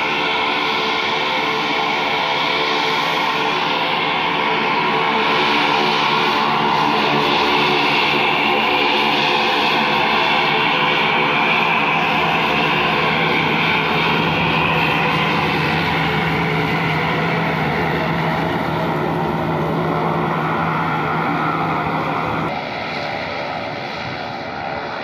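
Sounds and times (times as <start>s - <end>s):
engine whine: 0.0s - 25.0s
turboprop propeller drone: 0.0s - 25.0s.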